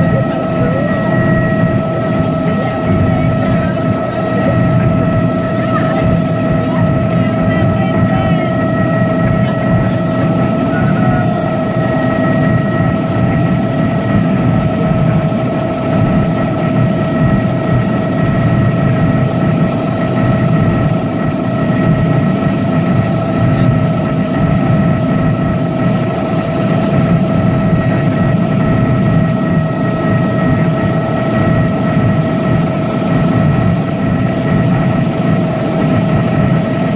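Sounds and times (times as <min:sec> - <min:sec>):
helicopter engine and rotor drone: 0:00.0 - 0:36.9
steady high whine: 0:00.0 - 0:36.9.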